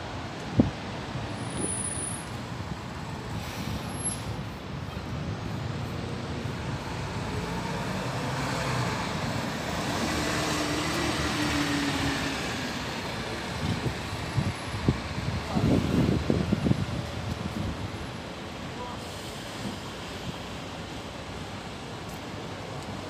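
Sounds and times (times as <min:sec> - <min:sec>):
bus driving past: 0:01.2 - 0:22.8.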